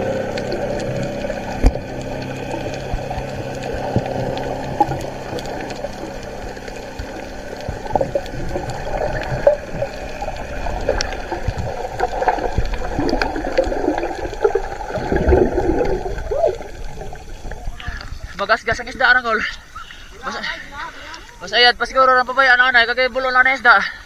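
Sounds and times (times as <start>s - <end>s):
muffled underwater gurgling: 0.0s - 20.3s.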